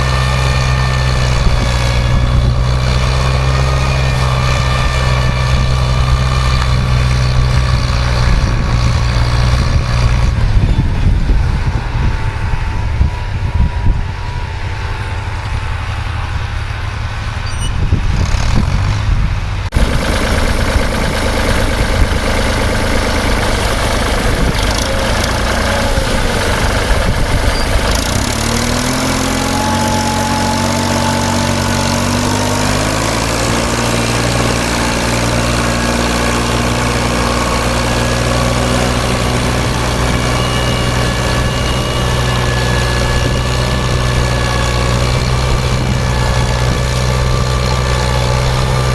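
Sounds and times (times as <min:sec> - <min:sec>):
farm machine engine running: 0:00.0 - 0:48.9.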